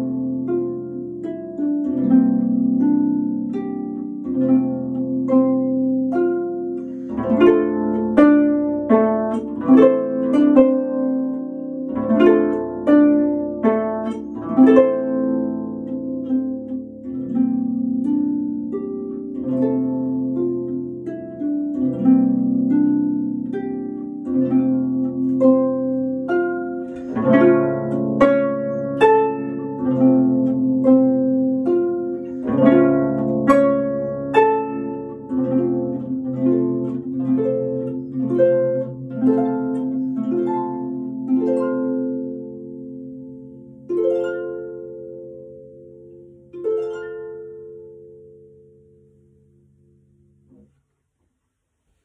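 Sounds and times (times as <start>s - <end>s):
harp playing: 0.0s - 50.8s.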